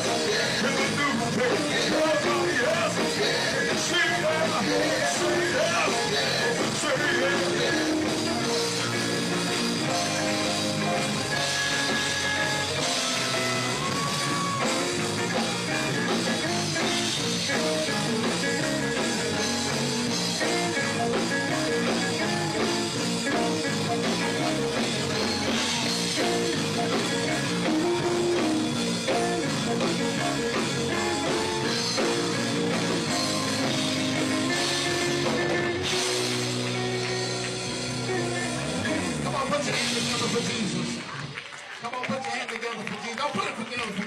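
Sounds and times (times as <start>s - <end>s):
gospel band playing: 0.0s - 41.8s.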